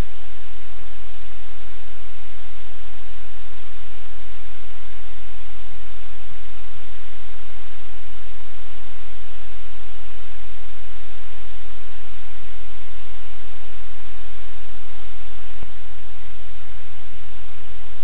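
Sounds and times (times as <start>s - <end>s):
loud steady hiss: 0.0s - 18.0s.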